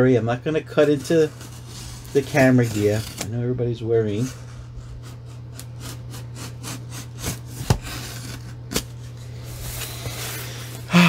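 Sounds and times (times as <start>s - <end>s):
knife scraping cardboard: 0.8s - 3.3s, 4.1s - 10.8s.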